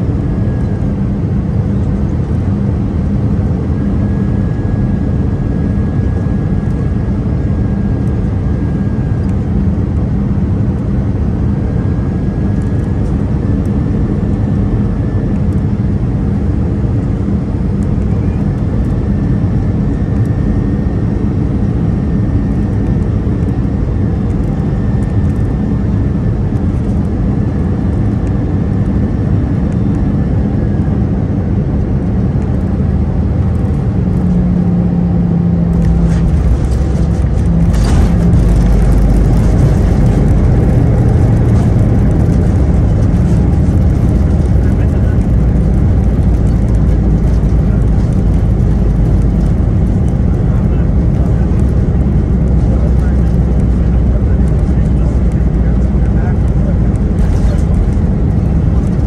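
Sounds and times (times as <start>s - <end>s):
aircraft cabin roar: 0.0s - 59.0s.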